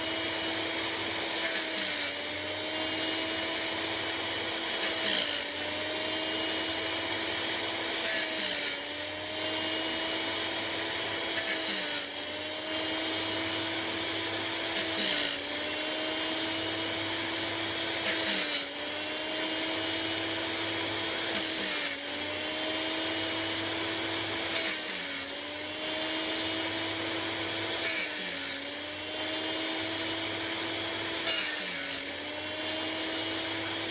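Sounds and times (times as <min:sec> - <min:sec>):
grinding wheel rasping on teeth: 0:00.0 - 0:33.9.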